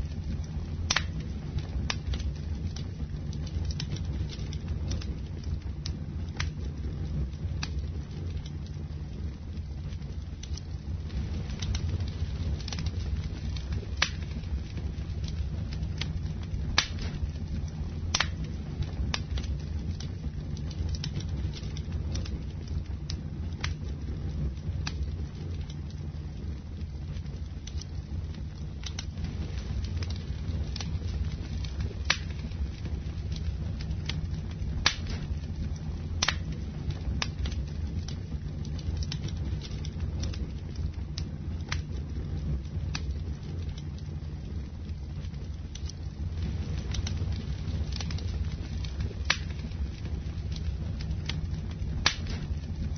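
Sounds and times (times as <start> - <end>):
campfire crackling and popping: 0.0 - 52.9
fire low rumble: 0.0 - 52.9.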